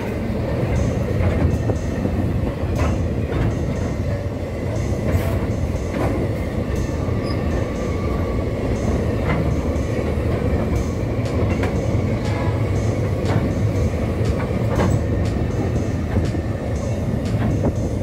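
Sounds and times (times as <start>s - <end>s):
freight wagons clanking: 0.0s - 18.0s
steel wheels rumbling on rail: 0.0s - 18.0s.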